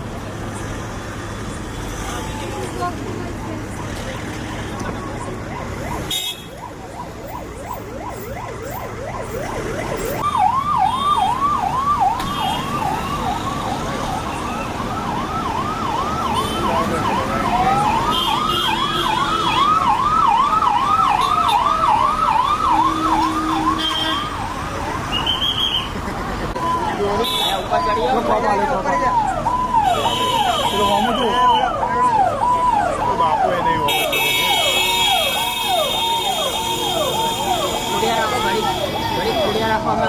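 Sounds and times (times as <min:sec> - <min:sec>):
siren wailing: 0:03.3 - 0:25.8, 0:26.6 - 0:40.0
siren yelping: 0:03.3 - 0:40.0.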